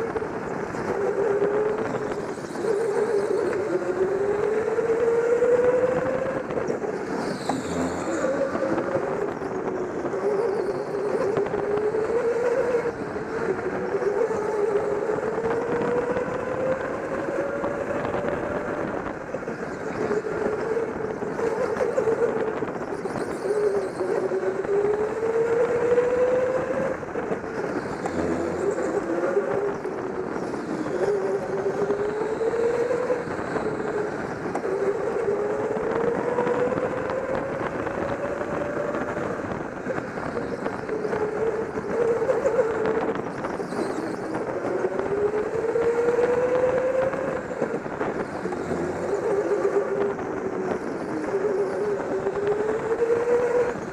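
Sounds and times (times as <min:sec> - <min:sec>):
go-kart motor revving: 0:00.0 - 0:53.9.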